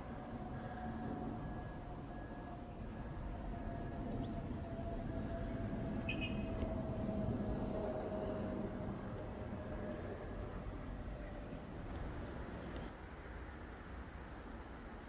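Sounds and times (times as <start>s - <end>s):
distant vehicle whine: 0.0s - 12.9s.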